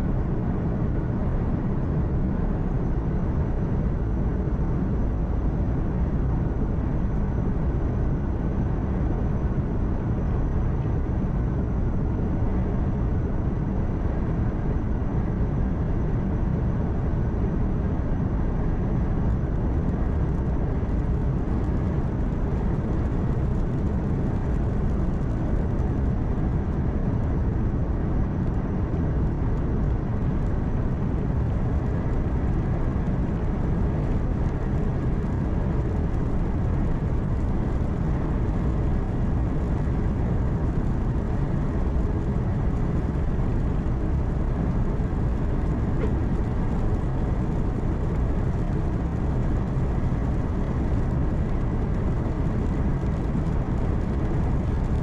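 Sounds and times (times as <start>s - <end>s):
road and tyre noise: 0.0s - 55.0s.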